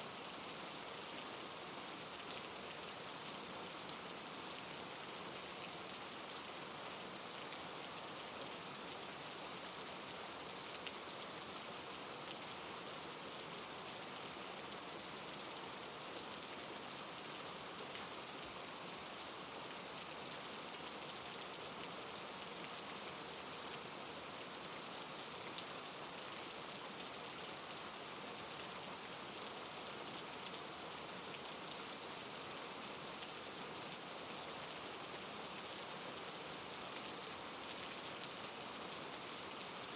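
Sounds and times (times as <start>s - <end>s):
soft rain: 0.0s - 39.9s.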